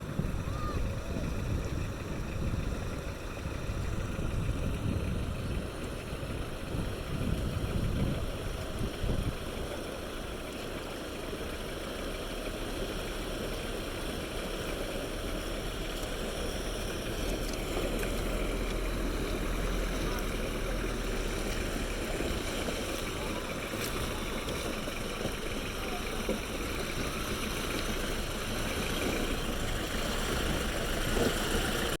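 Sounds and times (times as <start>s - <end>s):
off-road vehicle engine rumble: 0.0s - 32.0s.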